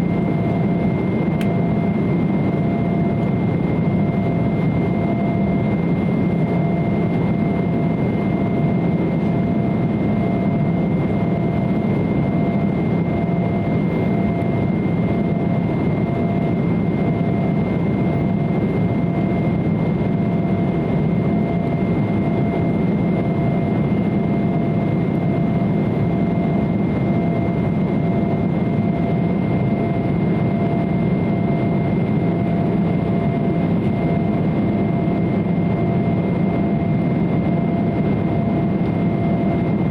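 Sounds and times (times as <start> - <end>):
airliner cabin engine roar: 0.0 - 39.9
thin steady whining tones: 0.0 - 39.9.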